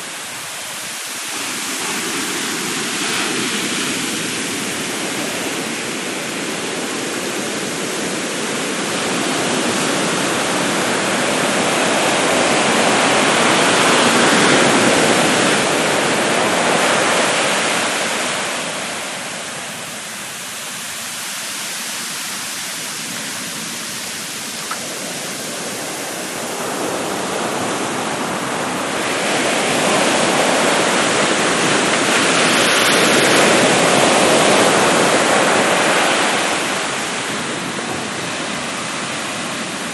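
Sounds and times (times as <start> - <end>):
surf breaking on a beach: 0.0 - 39.9.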